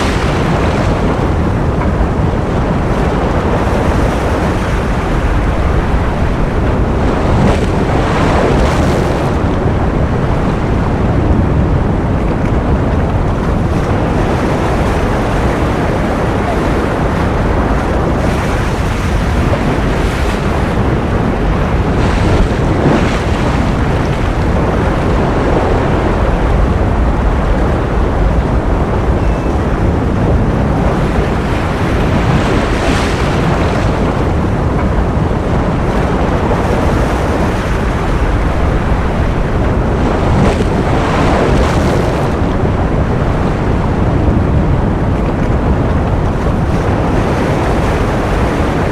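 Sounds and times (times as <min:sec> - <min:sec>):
ocean surf rushing: 0:00.0 - 0:48.9.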